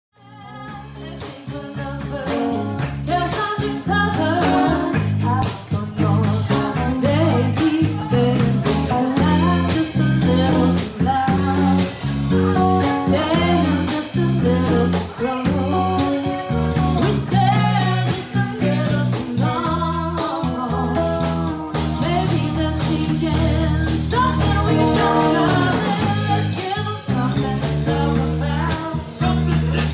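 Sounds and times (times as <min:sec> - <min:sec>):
drum kit: 0:00.2 - 0:29.9
electric bass: 0:00.2 - 0:29.9
electric guitar: 0:00.2 - 0:29.9
woman singing: 0:00.2 - 0:29.9.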